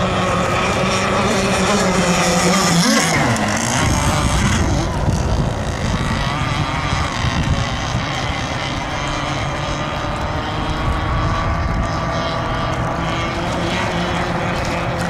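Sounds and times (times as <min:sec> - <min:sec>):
two-stroke engine buzzing: 0:00.0 - 0:15.0.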